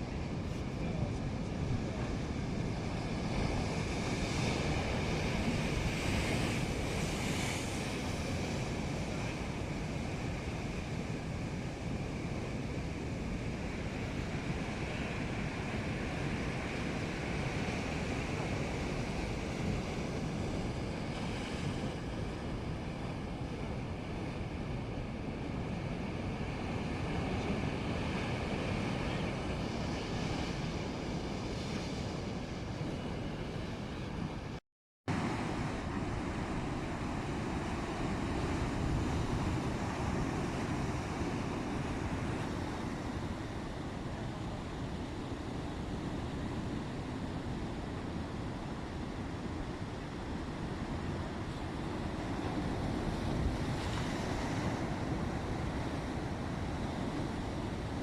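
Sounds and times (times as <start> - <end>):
sea waves: 0.0 - 58.0
wind buffeting the microphone: 0.0 - 58.0.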